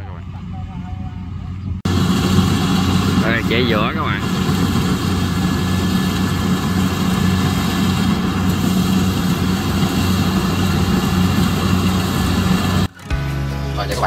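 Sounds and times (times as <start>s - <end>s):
combine harvester diesel engine drone: 0.0s - 13.0s.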